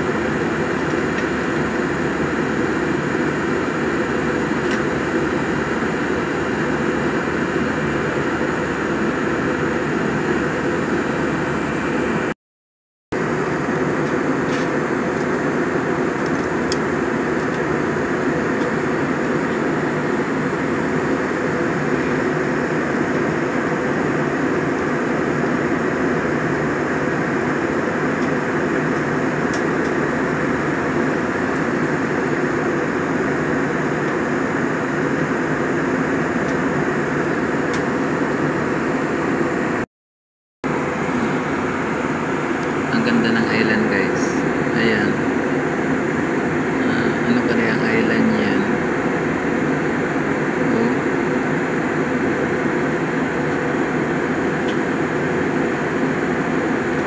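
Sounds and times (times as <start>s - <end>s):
airliner cabin noise: 0.0s - 12.3s, 13.2s - 39.9s, 40.6s - 57.0s.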